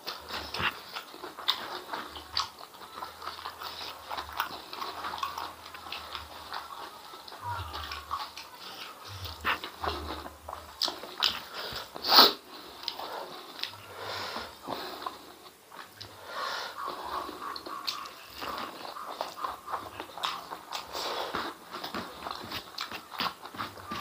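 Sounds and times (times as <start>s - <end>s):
man chewing wetly: 0.0s - 24.0s.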